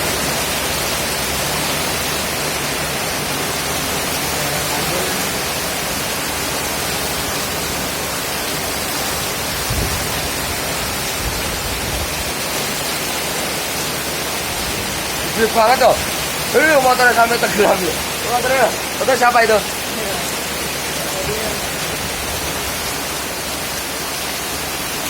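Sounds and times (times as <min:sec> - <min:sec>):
heavy downpour: 0:00.0 - 0:25.0
rushing floodwater: 0:00.0 - 0:25.0.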